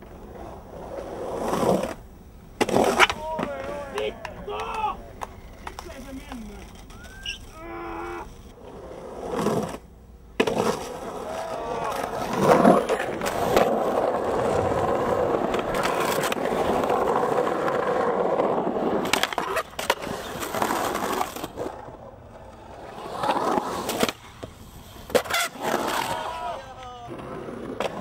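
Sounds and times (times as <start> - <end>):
skateboard clacks: 0.0 - 7.4, 8.7 - 28.0
skateboard wheels rolling on concrete: 0.0 - 28.0.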